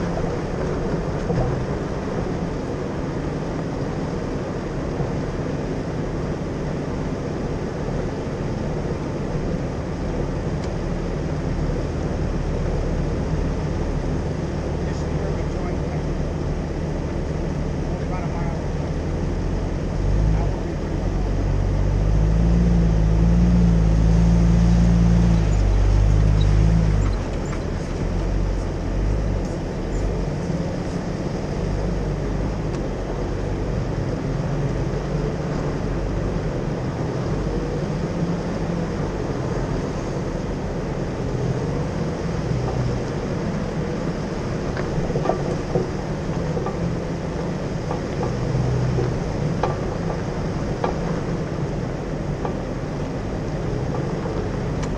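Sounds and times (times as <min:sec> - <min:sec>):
vehicle engine rumble: 0:00.0 - 0:54.9.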